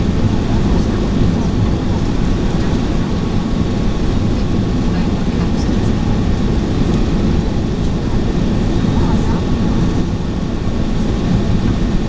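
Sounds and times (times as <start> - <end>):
airplane cabin engine roar: 0.0 - 12.0.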